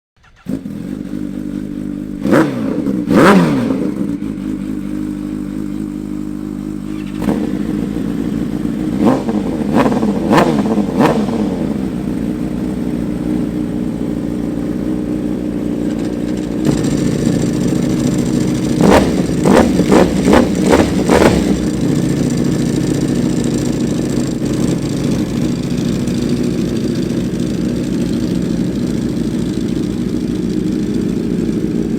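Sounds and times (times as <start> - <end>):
motorcycle engine revving: 0.2 - 31.9.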